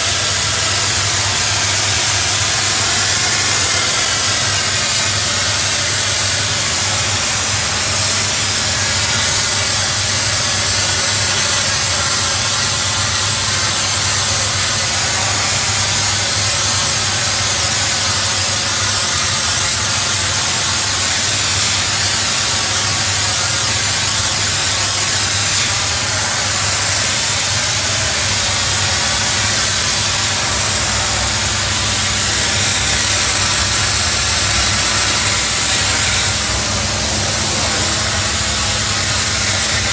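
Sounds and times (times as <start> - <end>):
hiss of high-pressure steam spray: 0.0 - 39.9
steady low hum: 0.0 - 39.9.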